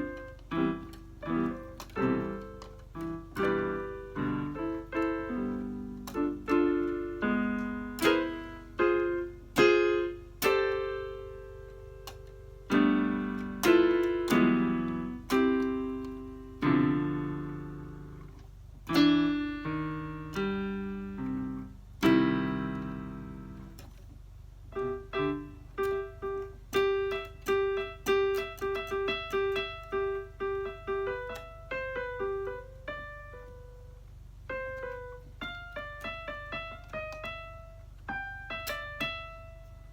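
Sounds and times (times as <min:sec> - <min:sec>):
electronic keyboard piano: 0:00.0 - 0:39.9.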